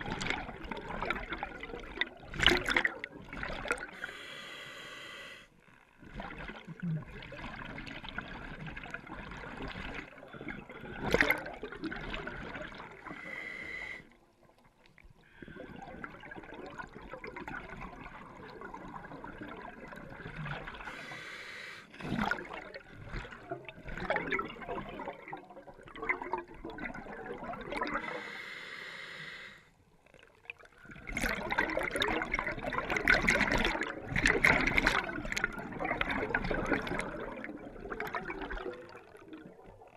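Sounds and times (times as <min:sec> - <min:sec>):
exhaled bubbles underwater: 0:00.0 - 0:04.3, 0:05.8 - 0:28.4, 0:29.9 - 0:39.9.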